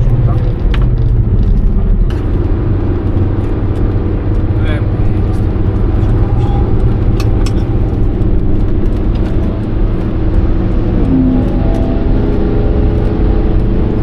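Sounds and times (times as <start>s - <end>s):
diesel engine drone: 0.0s - 14.0s
road noise: 0.0s - 14.0s.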